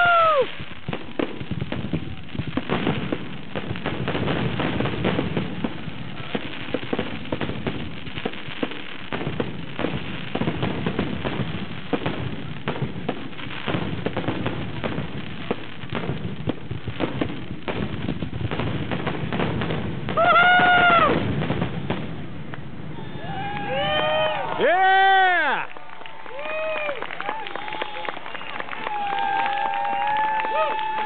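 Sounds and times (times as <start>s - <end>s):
fireworks barrage of bangs: 0.0s - 25.6s.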